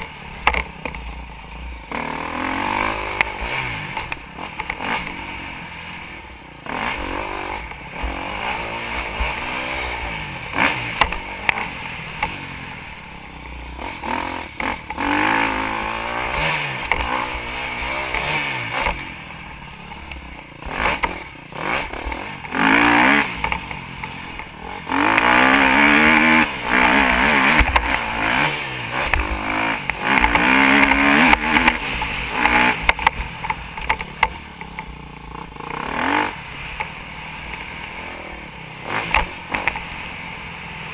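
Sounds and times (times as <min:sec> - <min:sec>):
constant rushing noise: 0:00.0 - 0:40.9
motocross bike engine revving: 0:00.0 - 0:40.9.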